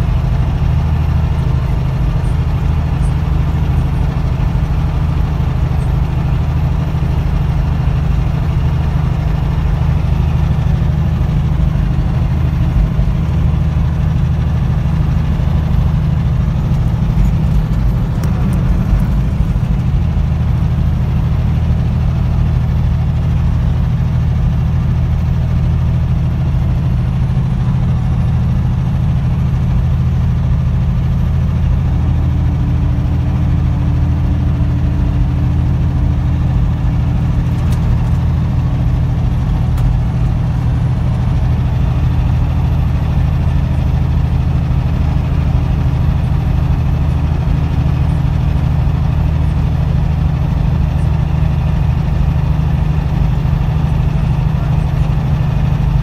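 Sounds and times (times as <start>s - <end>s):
truck diesel engine drone: 0.0s - 56.0s.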